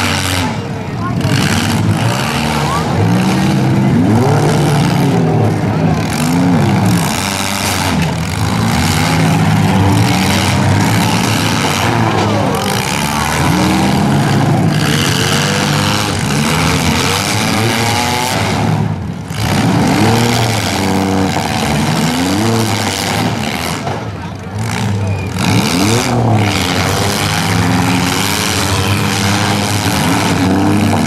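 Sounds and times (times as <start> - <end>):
car engines revving: 0.0 - 31.0
cars ramming each other: 0.0 - 31.0.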